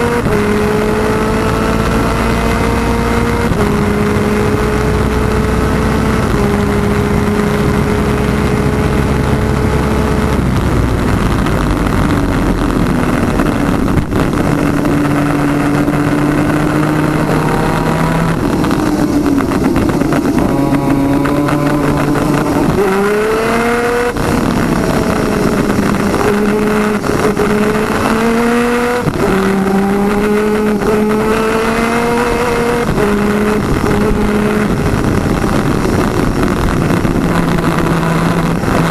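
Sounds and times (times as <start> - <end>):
two-stroke kart engine racing: 0.0 - 38.9.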